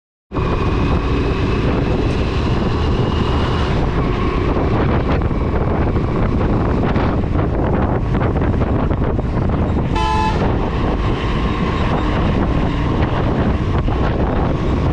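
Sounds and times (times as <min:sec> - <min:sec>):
motorbike running noise: 0:00.3 - 0:14.9
wind buffeting microphone: 0:00.3 - 0:14.9.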